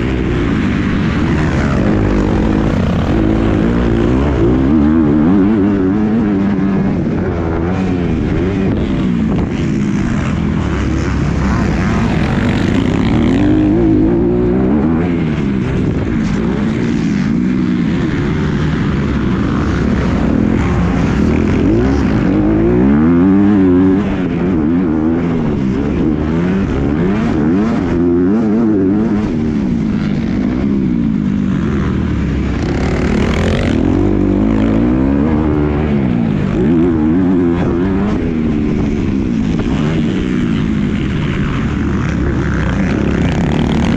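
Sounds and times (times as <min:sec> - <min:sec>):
motocross bike engine revving: 0:00.0 - 0:43.9
wind noise: 0:00.0 - 0:43.9.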